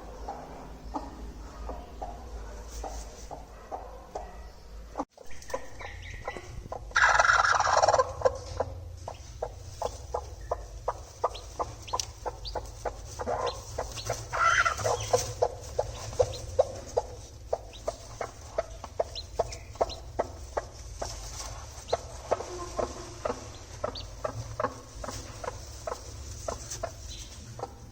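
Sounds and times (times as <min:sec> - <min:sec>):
hen clucking: 0:00.0 - 0:27.9.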